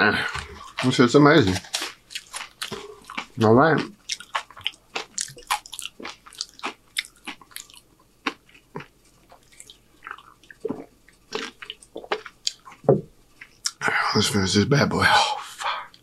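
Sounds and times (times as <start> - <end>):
wet chewing clicks and smacks: 0.3 - 13.8.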